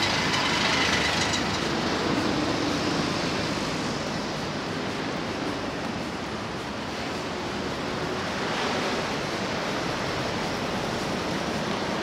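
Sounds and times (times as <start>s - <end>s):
ocean surf: 0.0s - 12.0s
road traffic passing: 0.0s - 12.0s.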